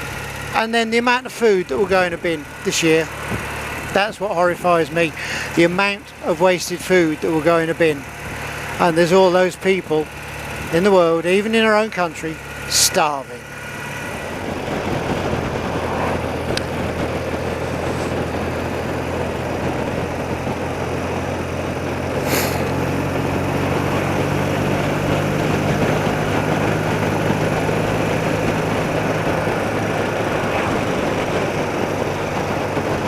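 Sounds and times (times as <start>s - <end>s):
motorcycle engine running: 0.0s - 33.0s
wind and road noise: 0.0s - 33.0s.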